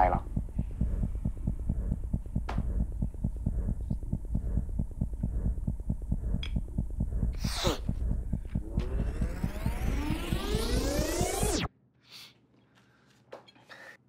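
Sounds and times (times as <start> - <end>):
throbbing bass pulse: 0.0 - 11.7.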